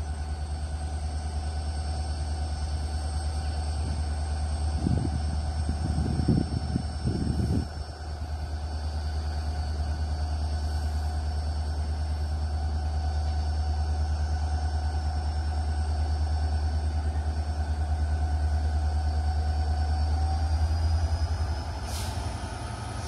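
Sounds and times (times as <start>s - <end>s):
distant train locomotive rumble: 0.0s - 23.0s.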